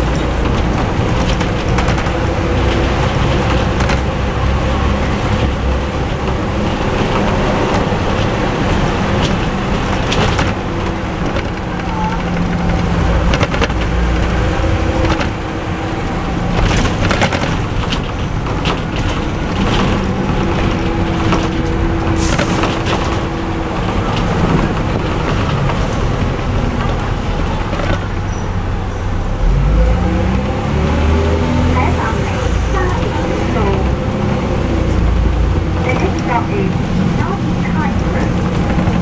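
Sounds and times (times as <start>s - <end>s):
bus body rattles: 0.0s - 39.0s
bus diesel engine running: 0.0s - 39.0s
road noise: 0.0s - 39.0s.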